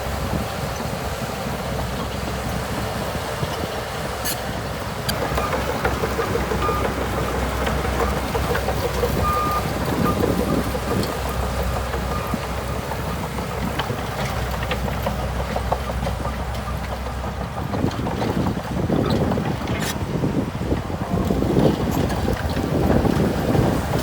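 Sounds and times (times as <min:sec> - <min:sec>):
bulldozer diesel engine: 0:00.0 - 0:24.0.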